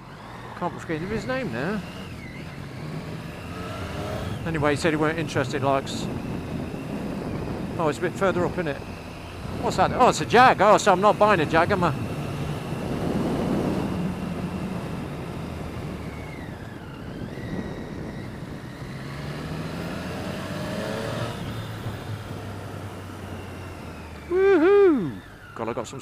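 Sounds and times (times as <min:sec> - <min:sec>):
motorcycle engine accelerating: 0:00.0 - 0:26.0
wind and road noise: 0:00.0 - 0:26.0.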